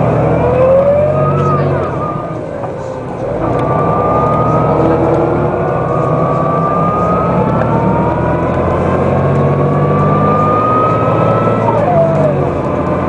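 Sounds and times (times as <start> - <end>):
bus diesel engine accelerating: 0.0 - 13.0
high whine: 0.0 - 13.0.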